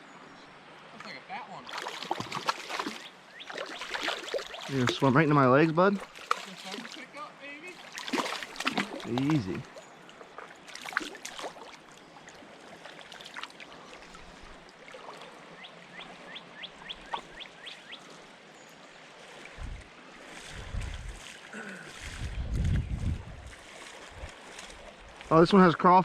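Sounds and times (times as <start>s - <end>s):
creek water over rocks: 0.0s - 26.0s.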